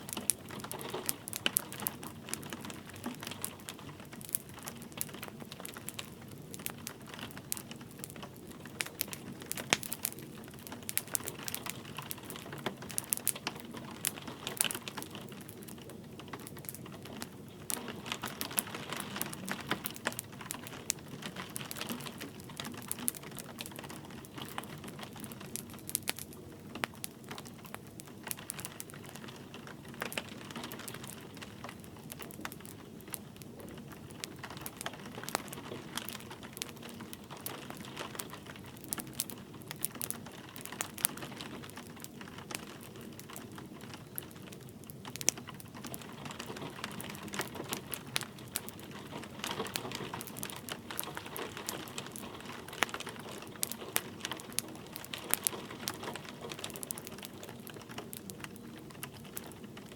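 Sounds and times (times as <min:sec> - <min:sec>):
light rain hissing: 0:00.0 - 0:59.9
wood fire crackling: 0:00.0 - 0:59.9.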